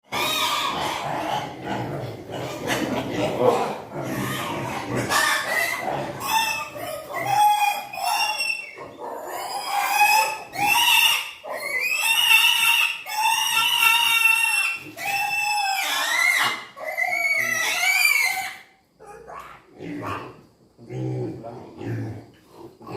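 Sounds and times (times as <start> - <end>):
piglets squealing: 0.1 - 20.2.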